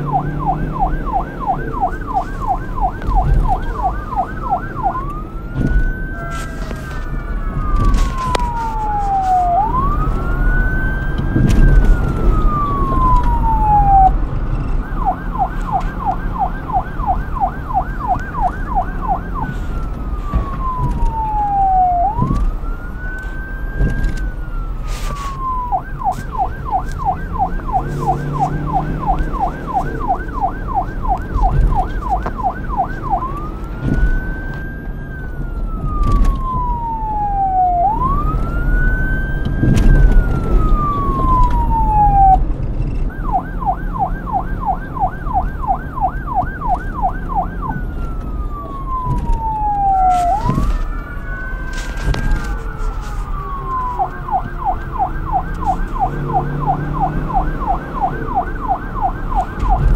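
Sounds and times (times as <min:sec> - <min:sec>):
police siren yelp and wail: 0:00.0 - 0:59.9.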